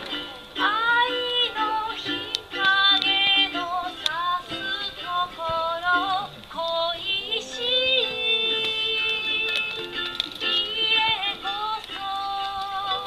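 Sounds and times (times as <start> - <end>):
high voice singing: 0.6 - 13.0.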